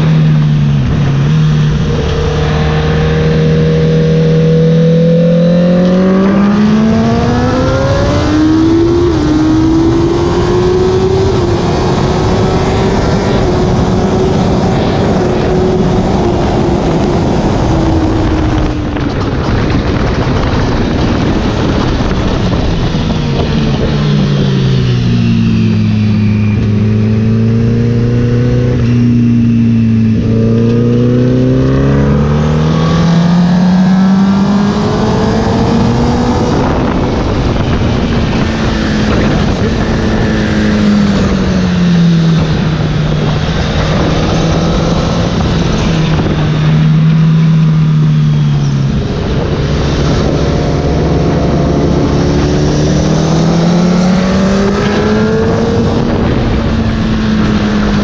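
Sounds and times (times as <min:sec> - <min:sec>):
motorcycle engine accelerating: 0:00.0 - 0:58.0
wind noise: 0:00.0 - 0:58.0.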